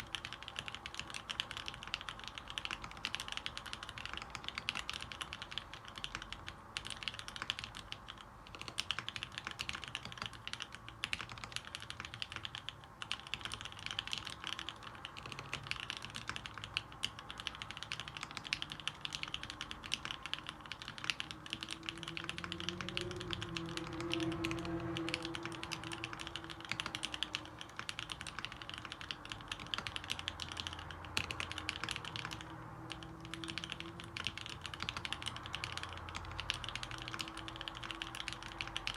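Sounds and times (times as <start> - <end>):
rapid typing on mechanical keyboard: 0.0 - 38.9.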